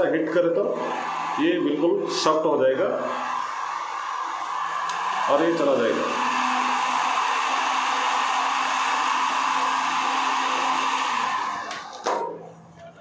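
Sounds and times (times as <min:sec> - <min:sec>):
hot air gun fan blowing: 0:00.7 - 0:12.0.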